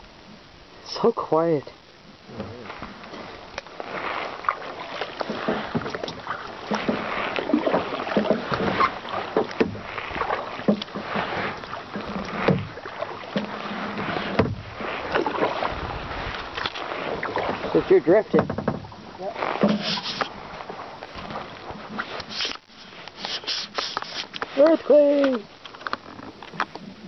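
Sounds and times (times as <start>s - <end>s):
moving water wash: 0.0s - 27.0s
water splashing against kayak hull: 2.0s - 27.0s.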